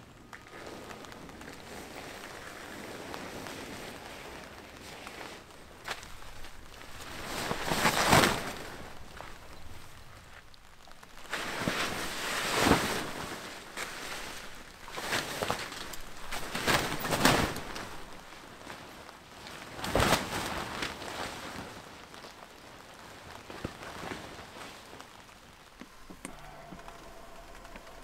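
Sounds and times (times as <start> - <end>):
tent fabric rustling: 0.0 - 28.0.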